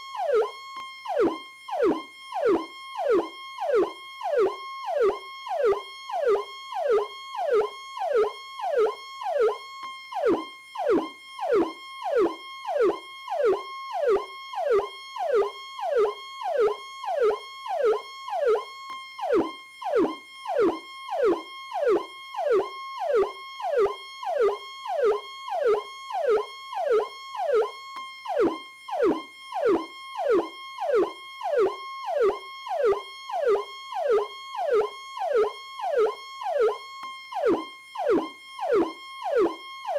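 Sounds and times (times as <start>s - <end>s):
electronic police siren: 0.0s - 39.9s.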